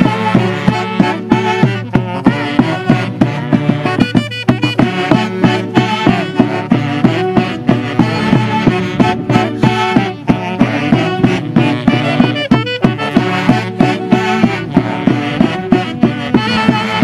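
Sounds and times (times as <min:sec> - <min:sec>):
saxophones playing folk tune: 0:00.0 - 0:17.0
steady drum beat: 0:00.0 - 0:17.0.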